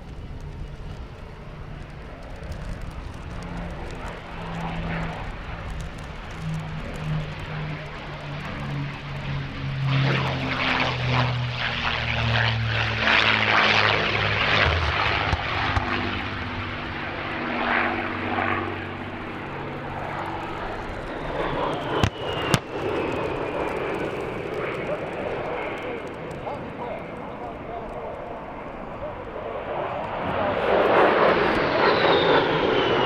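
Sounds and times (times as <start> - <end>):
propeller aircraft engine drone: 0.0 - 33.0.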